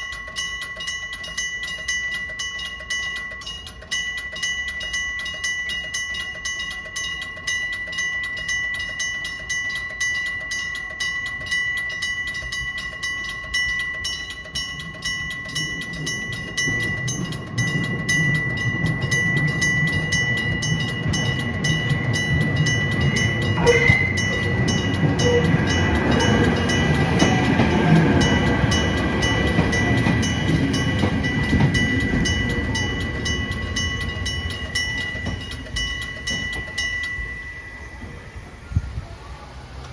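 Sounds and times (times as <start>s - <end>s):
level-crossing bell ringing: 0.0s - 38.8s
electric train passing: 0.0s - 39.9s.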